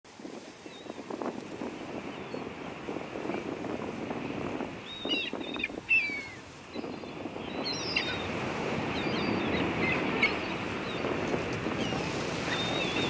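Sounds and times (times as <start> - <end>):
small waves washing on shore: 0.1 - 13.0.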